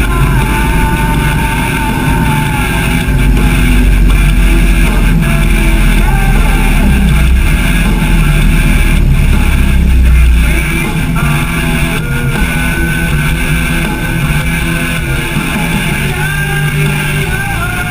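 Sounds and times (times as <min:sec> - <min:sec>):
motorcycle engine rumbling: 0:00.0 - 0:17.9
music: 0:00.0 - 0:17.9.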